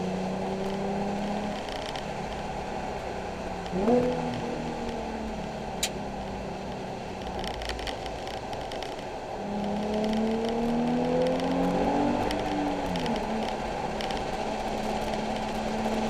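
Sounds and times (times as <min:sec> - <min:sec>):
car engine accelerating: 0:00.0 - 0:16.0
wet road tyre noise: 0:00.0 - 0:16.0.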